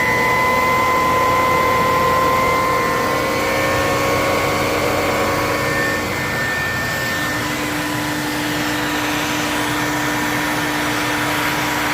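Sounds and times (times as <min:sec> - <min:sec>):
vacuum cleaner running: 0:00.0 - 0:11.9.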